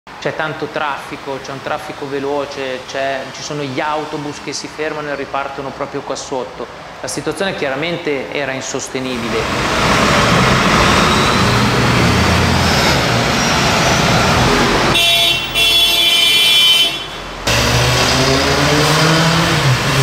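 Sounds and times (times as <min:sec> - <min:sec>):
buses and cars passing: 0:00.1 - 0:20.0.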